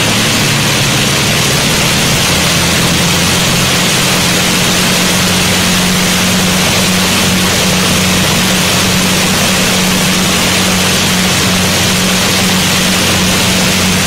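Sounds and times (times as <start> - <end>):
aircraft piston engines droning: 0.0 - 14.0.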